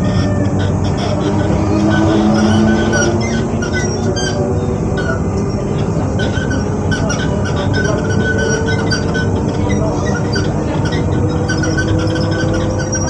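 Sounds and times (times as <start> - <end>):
train equipment hum: 0.0 - 13.0.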